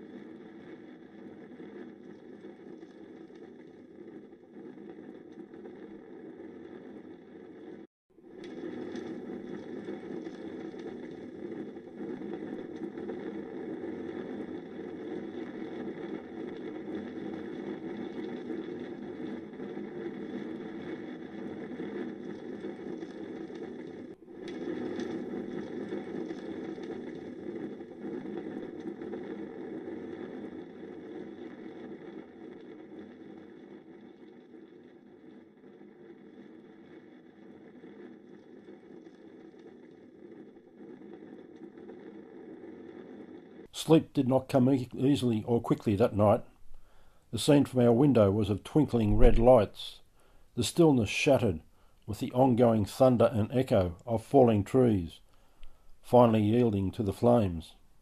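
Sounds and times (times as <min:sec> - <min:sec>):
fire and wind roaring: 0:00.0 - 0:58.0.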